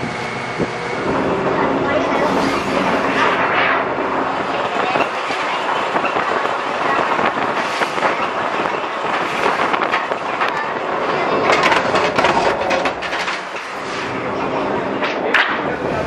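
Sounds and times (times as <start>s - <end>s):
metal sheet sliding: 0.8s - 16.0s.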